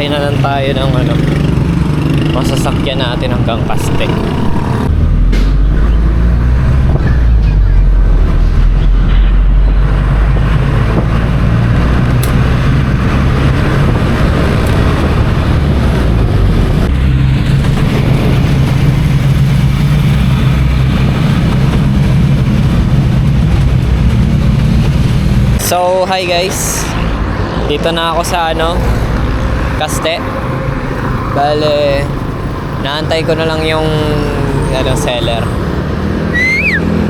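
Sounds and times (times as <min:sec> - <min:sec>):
road noise: 0:00.0 - 0:37.0
vehicle engine drone: 0:00.0 - 0:37.0.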